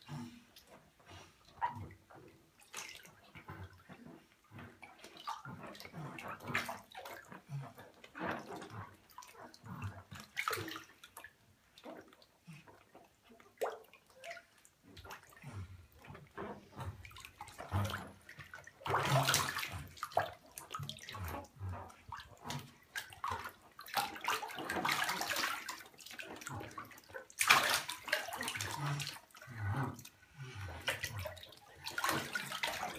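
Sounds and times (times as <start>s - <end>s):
bath water splashing: 1.5s - 32.9s.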